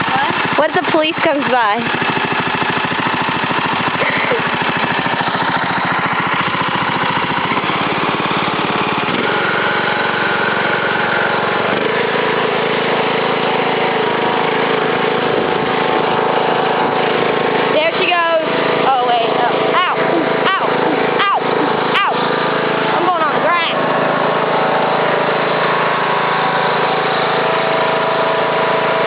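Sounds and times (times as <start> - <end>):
riding lawn mower engine: 0.0 - 29.0.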